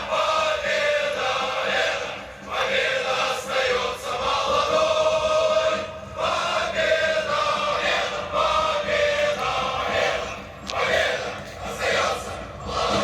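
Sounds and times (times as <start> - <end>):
choir singing slow song: 0.0 - 13.0.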